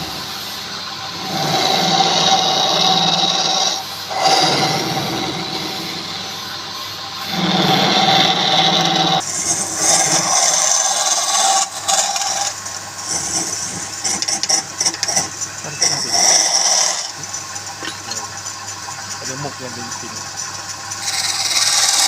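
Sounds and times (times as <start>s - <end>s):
turning tool cutting wood hiss: 0.0s - 22.0s
wood lathe running: 0.0s - 22.0s.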